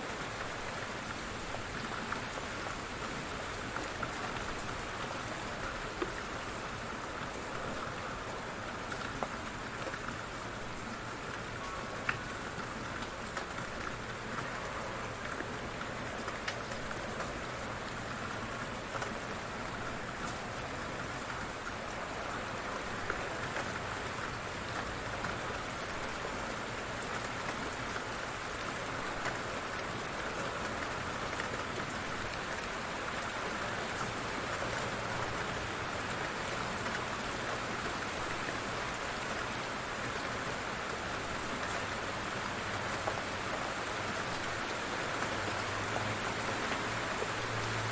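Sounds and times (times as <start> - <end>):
light rain falling: 0.0 - 47.9
raindrops pattering: 0.0 - 47.9.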